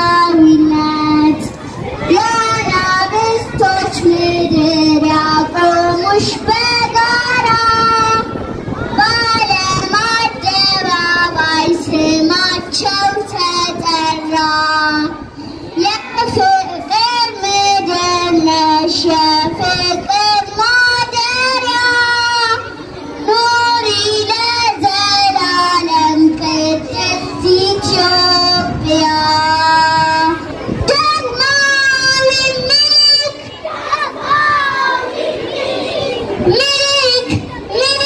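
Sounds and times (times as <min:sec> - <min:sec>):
children singing into a microphone: 0:00.0 - 0:38.0
high child's voice singing: 0:00.0 - 0:38.0.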